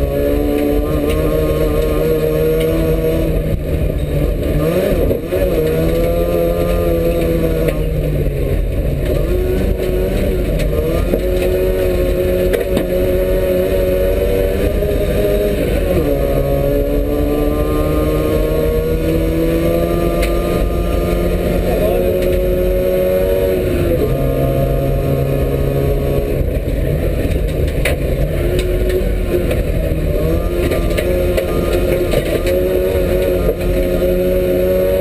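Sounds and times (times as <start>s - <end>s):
two-stroke car engine revving: 0.0s - 35.0s.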